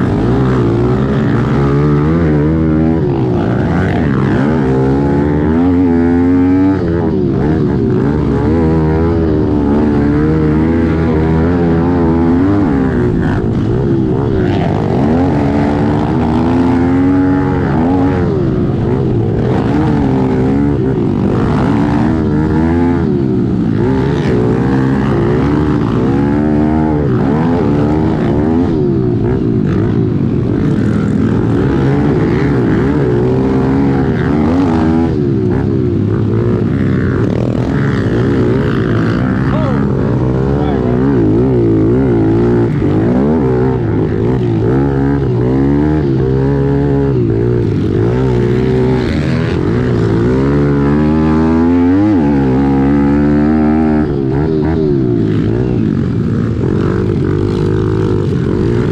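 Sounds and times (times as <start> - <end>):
motorbike engine under hard throttle: 0.0 - 58.9.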